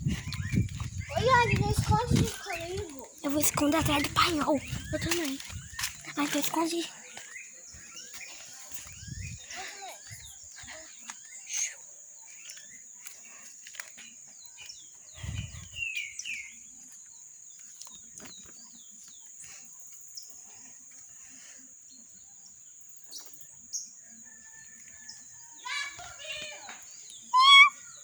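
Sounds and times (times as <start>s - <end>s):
birds chirping: 0.0s - 21.1s, 21.9s - 28.0s.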